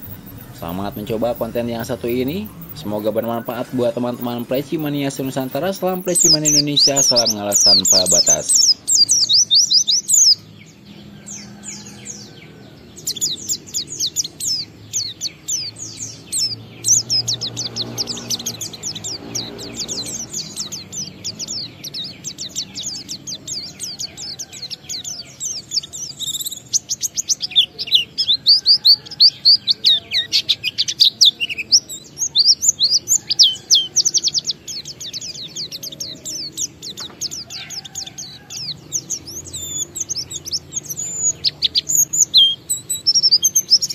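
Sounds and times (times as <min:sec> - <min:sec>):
bird twittering song: 0:00.0 - 0:43.9.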